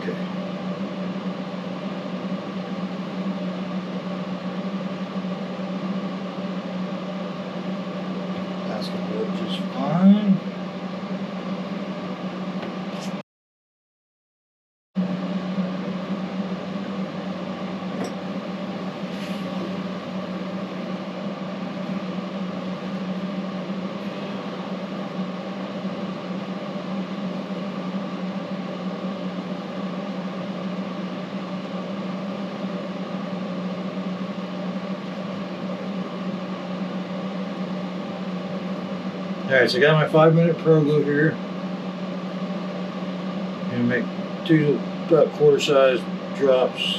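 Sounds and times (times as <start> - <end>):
steady machine hum: 0.0 - 13.2, 15.0 - 46.9.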